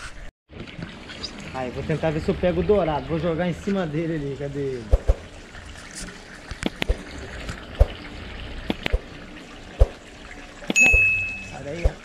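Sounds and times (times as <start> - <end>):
water pouring into a pond: 0.5 - 12.0.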